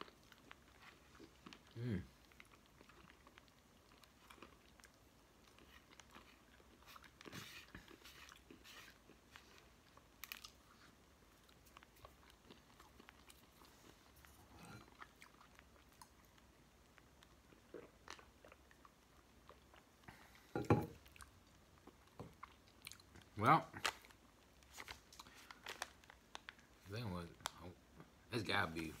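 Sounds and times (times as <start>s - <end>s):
person chewing and crunching: 0.0s - 28.2s.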